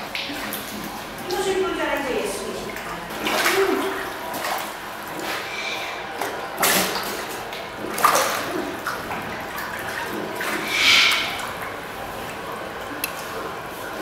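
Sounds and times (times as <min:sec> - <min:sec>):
seal pups splashing: 0:00.0 - 0:14.0
water sloshing: 0:00.0 - 0:14.0.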